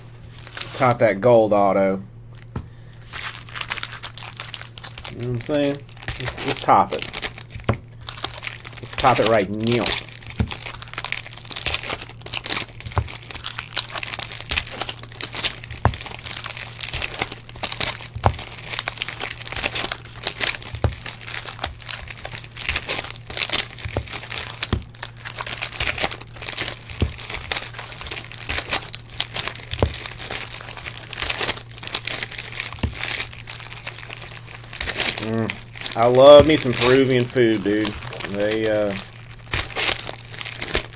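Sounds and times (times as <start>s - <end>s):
steady low hum: 0.0s - 40.9s
foil wrappers crinkling: 0.2s - 1.0s, 2.3s - 40.9s.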